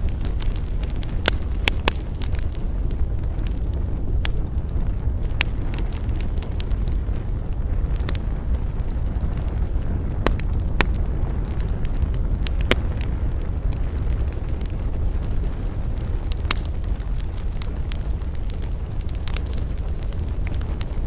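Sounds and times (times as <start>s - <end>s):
burning wood crackling and popping: 0.0s - 21.0s
campfire burning: 0.0s - 21.0s.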